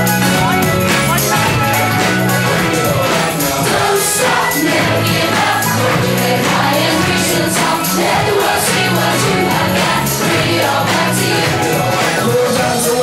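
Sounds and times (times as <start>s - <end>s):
song with singing voices and beat: 0.0s - 13.0s.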